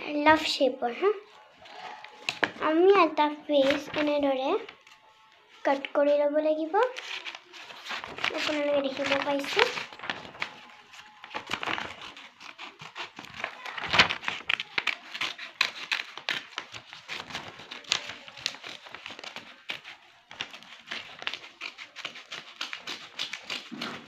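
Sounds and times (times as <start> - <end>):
paper rustling and crinkling: 1.1 - 24.0.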